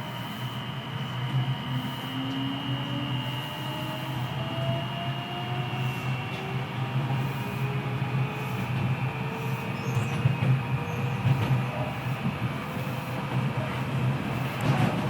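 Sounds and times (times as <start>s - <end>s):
electric train motor whine: 0.0s - 15.0s
wheels rumbling on rail: 0.0s - 15.0s.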